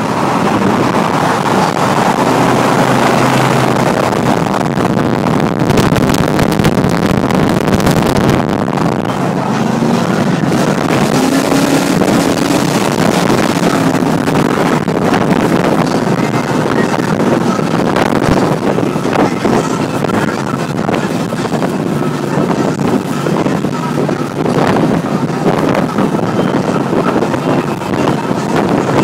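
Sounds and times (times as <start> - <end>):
low engine drone: 0.0 - 29.0
wind and road noise in car: 0.0 - 29.0
wind buffeting microphone: 0.0 - 29.0.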